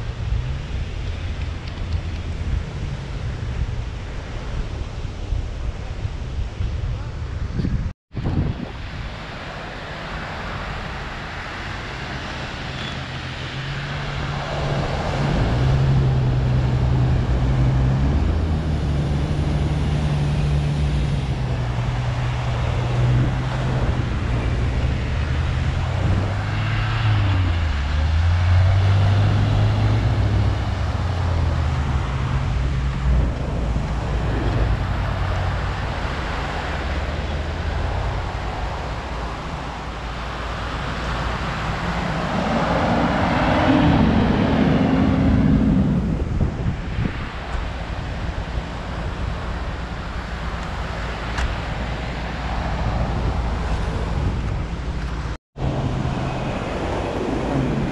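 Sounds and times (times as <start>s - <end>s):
waves washing: 8.2s - 57.9s.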